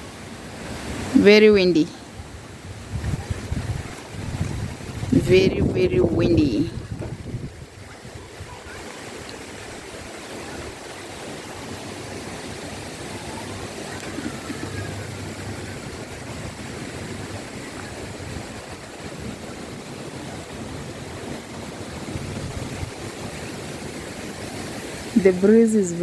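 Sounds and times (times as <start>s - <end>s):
strong wind gusting: 0.0s - 26.0s.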